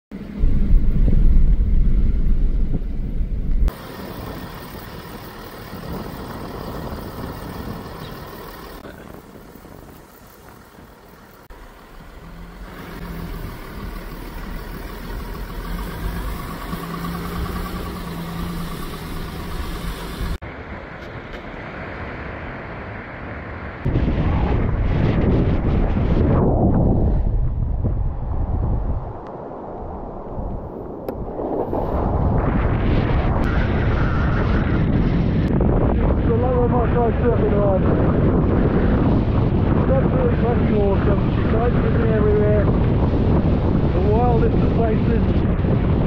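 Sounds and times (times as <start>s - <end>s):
vehicle engine and tyre rumble: 0.1s - 46.0s.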